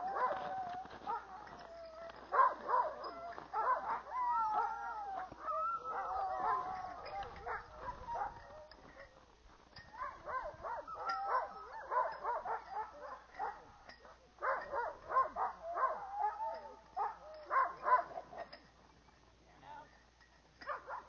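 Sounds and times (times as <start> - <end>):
dogs barking and yelping: 0.0 - 9.2, 9.8 - 18.6, 20.6 - 21.0.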